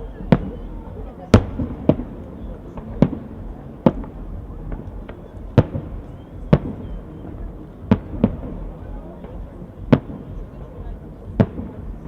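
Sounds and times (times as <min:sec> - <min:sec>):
fireworks shells booming: 0:00.0 - 0:12.0.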